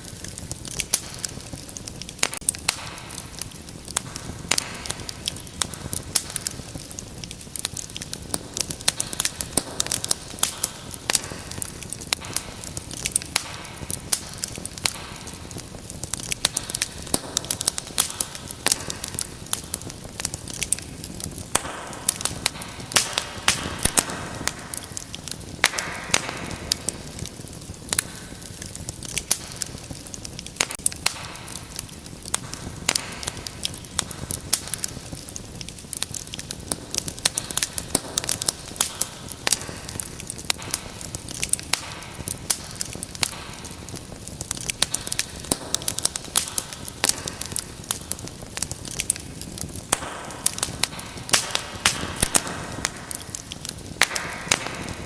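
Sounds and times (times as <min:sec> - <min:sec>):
hiss of burning: 0:00.0 - 0:55.0
wood fire crackling and popping: 0:00.0 - 0:55.0.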